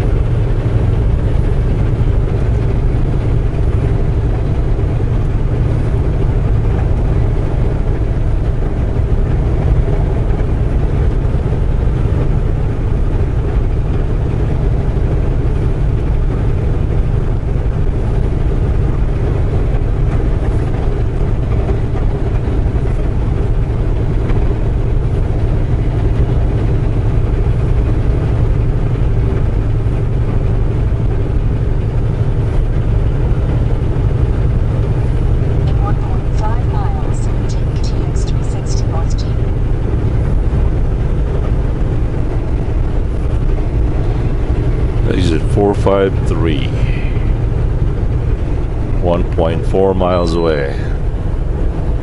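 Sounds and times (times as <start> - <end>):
diesel truck engine drone: 0.0 - 52.0
road noise: 0.0 - 52.0.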